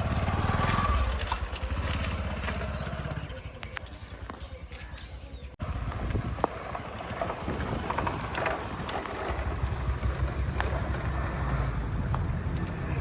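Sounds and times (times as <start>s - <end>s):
diesel machinery rumbling: 0.0s - 13.0s.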